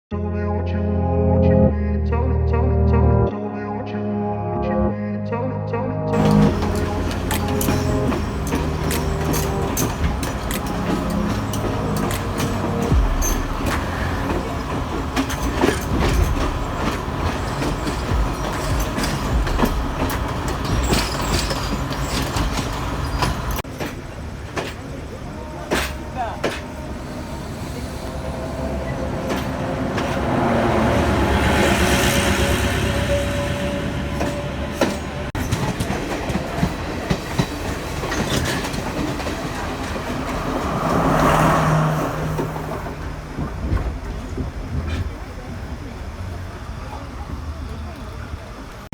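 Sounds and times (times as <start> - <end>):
train rumbling on rails: 6.1 - 48.9
train wheels clicking and clattering: 6.2 - 46.4.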